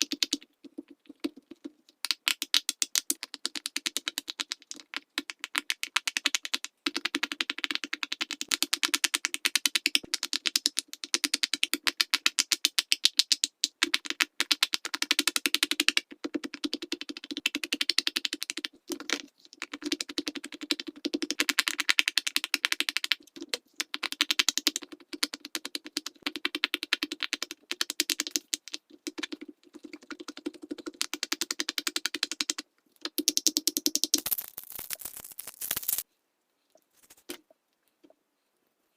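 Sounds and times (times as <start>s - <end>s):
fidget toy bubbles popping: 0.0s - 36.0s.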